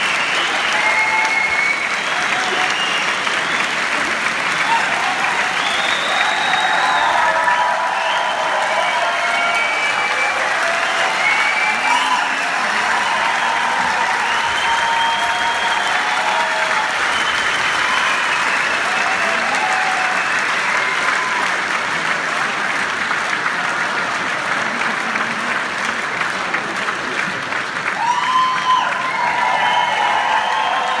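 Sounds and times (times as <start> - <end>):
audience applauding and cheering: 0.0 - 31.0.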